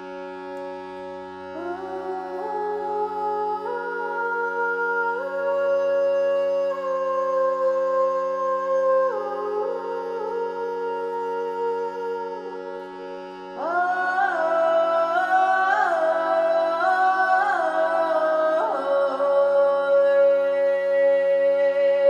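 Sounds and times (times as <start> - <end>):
meditative chant music: 0.0 - 22.0.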